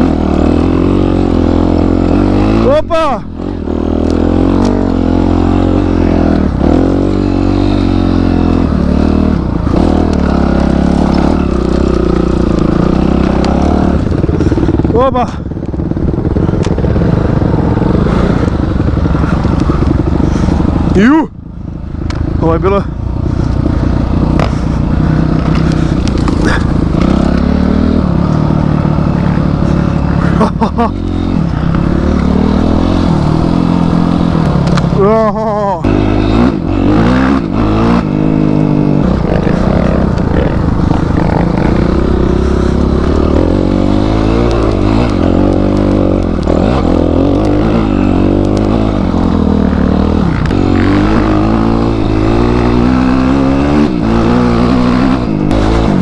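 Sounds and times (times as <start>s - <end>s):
motorcycle engine running under load: 0.0s - 56.0s.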